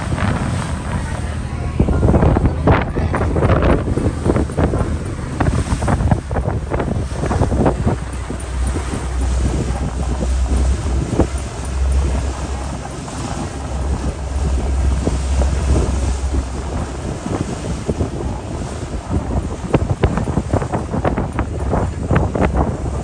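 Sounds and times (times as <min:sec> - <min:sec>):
harbour water washing: 0:00.0 - 0:23.0
low rumble: 0:00.0 - 0:23.0
wind buffeting microphone: 0:00.0 - 0:23.0.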